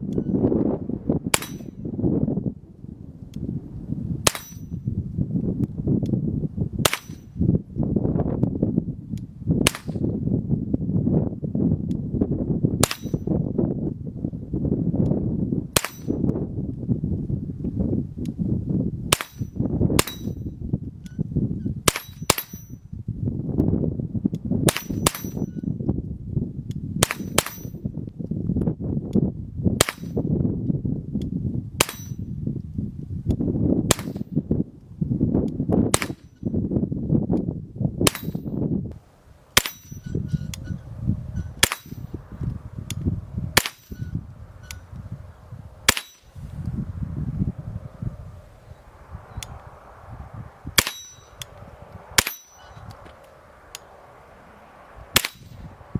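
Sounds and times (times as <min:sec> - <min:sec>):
steady low rumble: 0:00.0 - 0:55.9.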